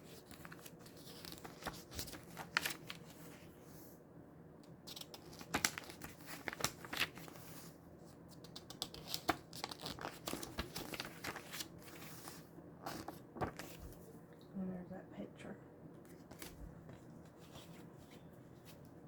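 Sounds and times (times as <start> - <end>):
paper rustling and crinkling: 0.0 - 3.5, 4.9 - 14.0, 16.1 - 19.0.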